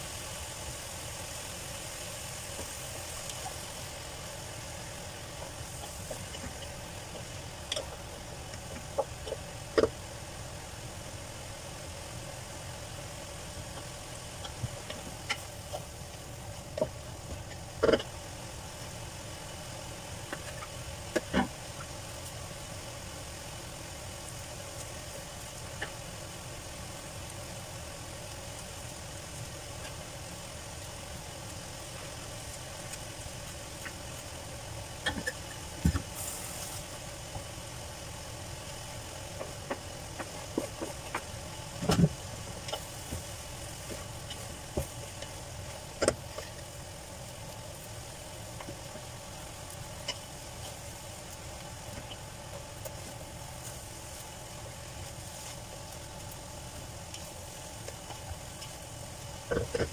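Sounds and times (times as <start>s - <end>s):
faint sizzle: 0.0s - 59.9s
steady low hum: 0.0s - 59.9s.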